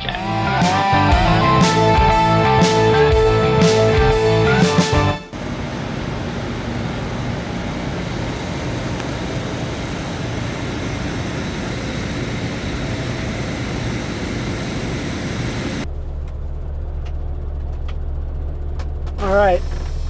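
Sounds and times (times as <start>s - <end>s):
low engine hum: 0.0s - 20.0s
truck road and wind noise: 0.0s - 20.0s.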